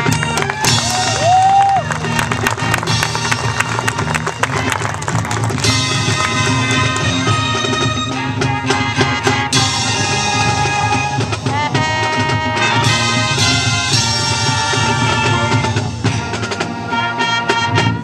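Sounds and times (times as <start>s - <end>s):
sharp percussion hits: 0.0s - 17.8s
marching band wind chords: 0.0s - 18.0s.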